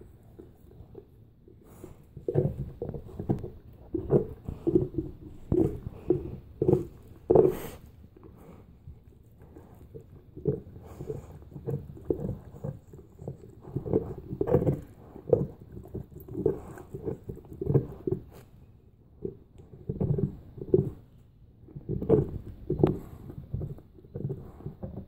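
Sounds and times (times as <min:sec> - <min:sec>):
dog gnawing a bone: 0:00.0 - 0:25.0.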